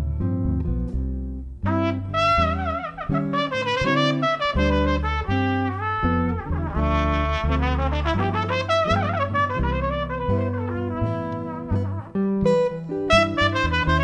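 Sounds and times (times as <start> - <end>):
bass line: 0.0 - 14.0
brass melody: 1.6 - 14.0.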